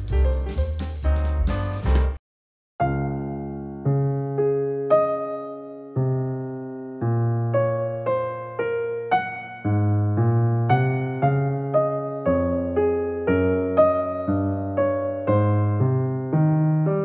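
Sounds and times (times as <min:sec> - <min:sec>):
piano music: 0:00.0 - 0:02.2, 0:02.8 - 0:17.0.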